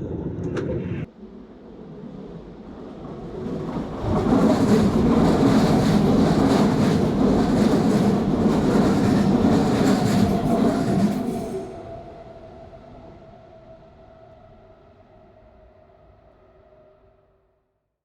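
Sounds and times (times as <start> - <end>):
train rumbling on rails: 0.0 - 15.8.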